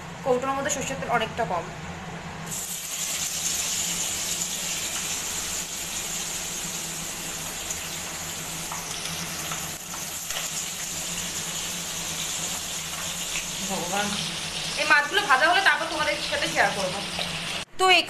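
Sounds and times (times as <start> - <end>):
fish sizzling in hot oil: 2.5 - 17.7.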